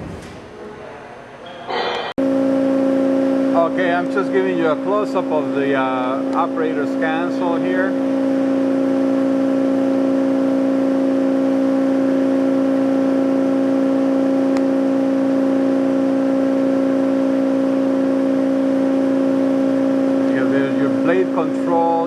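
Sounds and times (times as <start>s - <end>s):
band saw humming: 2.0s - 22.0s.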